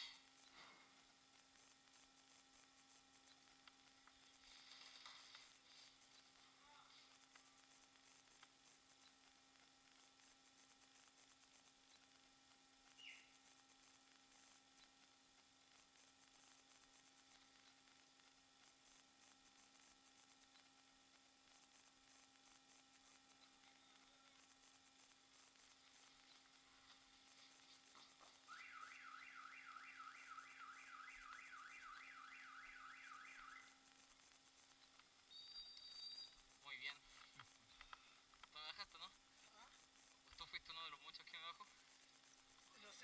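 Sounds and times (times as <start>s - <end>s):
faint electronic siren: 0.0s - 37.2s
faint steady hum and hiss: 0.0s - 43.0s.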